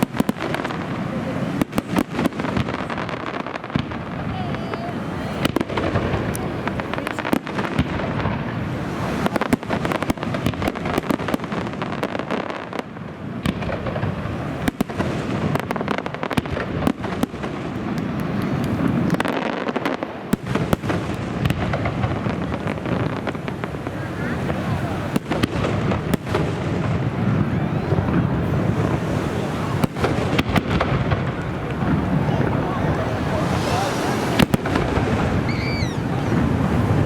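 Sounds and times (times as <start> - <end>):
fireworks crackling and banging: 0.0 - 37.0.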